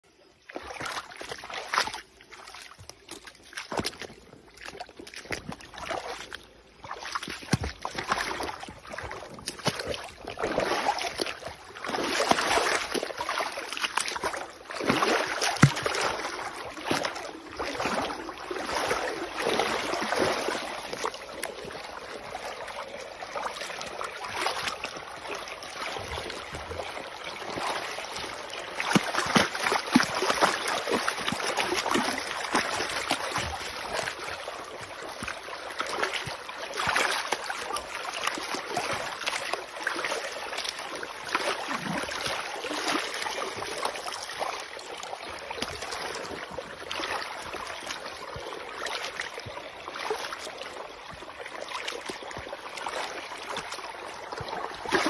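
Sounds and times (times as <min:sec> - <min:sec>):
feet splashing in river: 0:00.1 - 0:55.0.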